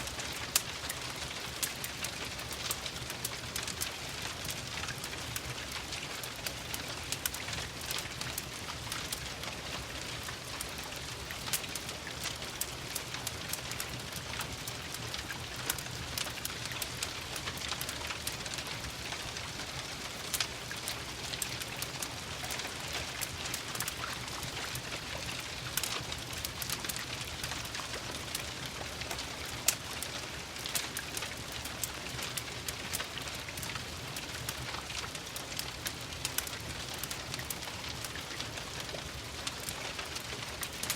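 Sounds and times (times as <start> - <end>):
steady rain falling: 0.0 - 40.9
wood fire crackling: 0.0 - 40.9.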